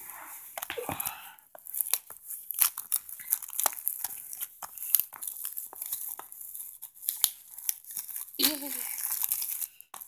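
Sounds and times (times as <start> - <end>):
plastic shrink wrap crinkling: 0.0 - 10.0.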